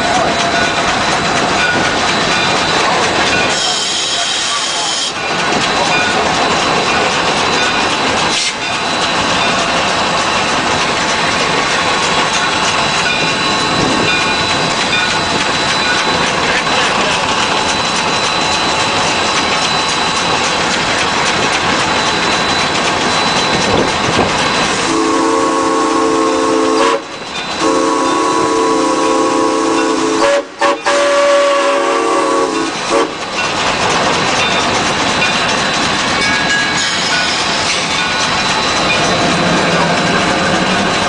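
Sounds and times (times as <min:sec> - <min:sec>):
steam locomotive mechanical din: 0:00.0 - 0:41.0.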